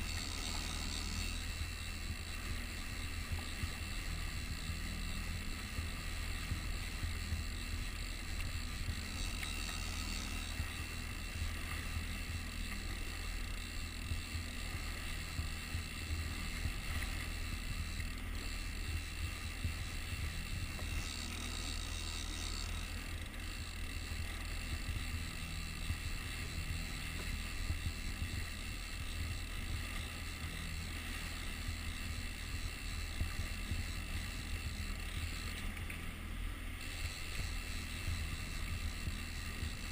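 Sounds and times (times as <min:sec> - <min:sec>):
outboard motor humming: 0:00.0 - 0:39.9.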